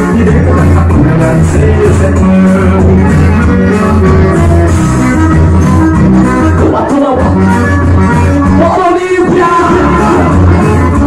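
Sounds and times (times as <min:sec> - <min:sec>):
loud music with pulsing bass: 0:00.0 - 0:11.0.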